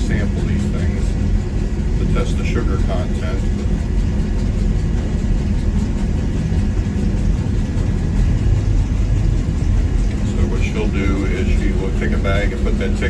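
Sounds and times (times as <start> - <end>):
heavy machinery rumbling: 0.0 - 13.0.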